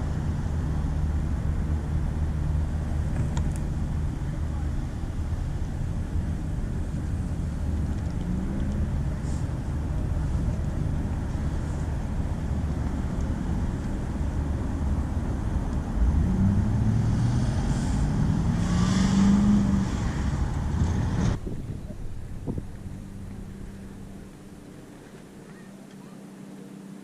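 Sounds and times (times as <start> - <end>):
vehicle engine accelerating: 0.0 - 25.3
city traffic rumble: 0.0 - 27.0.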